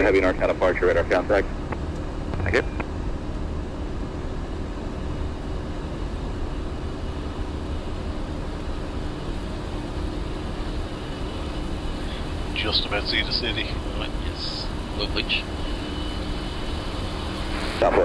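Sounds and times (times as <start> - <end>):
low hum: 0.0 - 17.8
faint steady tones: 0.0 - 18.0.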